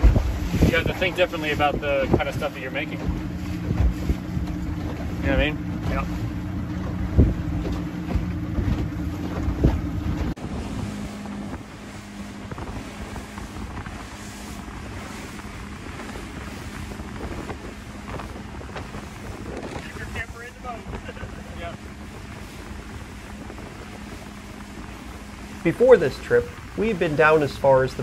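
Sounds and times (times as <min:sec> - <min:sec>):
boat engine running: 0:00.0 - 0:28.0
water rushing past hull: 0:00.0 - 0:28.0
wind buffeting microphone: 0:00.0 - 0:28.0.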